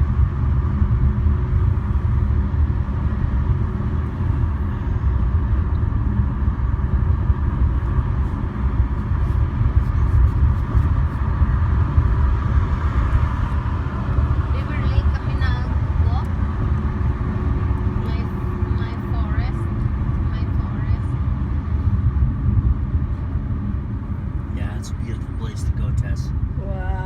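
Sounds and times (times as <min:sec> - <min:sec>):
vehicle road and engine rumble: 0:00.0 - 0:27.0.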